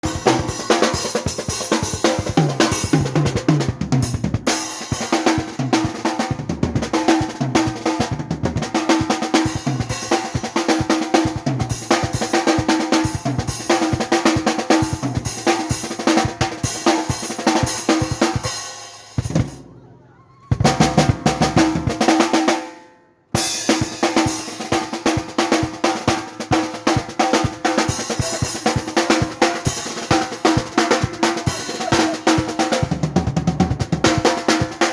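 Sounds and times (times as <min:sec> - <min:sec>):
drum kit played hard: 0:00.0 - 0:19.6, 0:20.6 - 0:22.7, 0:23.4 - 0:34.9.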